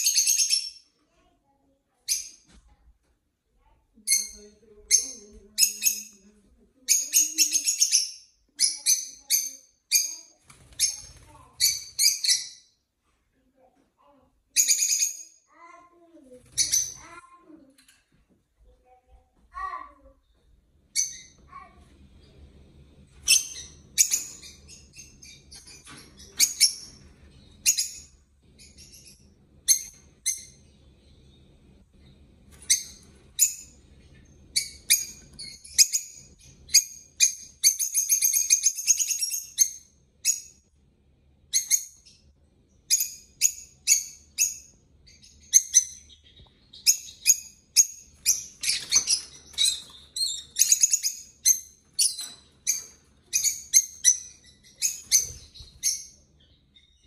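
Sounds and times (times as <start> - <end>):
small parrots chirping: 0.0 - 0.8, 4.0 - 12.8, 14.5 - 17.2, 20.9 - 40.7, 41.5 - 57.0.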